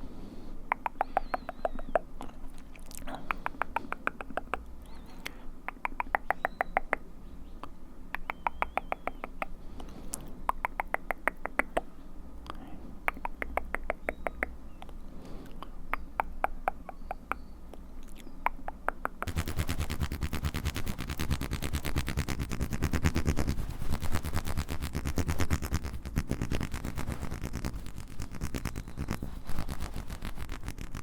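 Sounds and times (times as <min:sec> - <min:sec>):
wet mouth clicking: 0:00.7 - 0:07.0, 0:07.6 - 0:31.0.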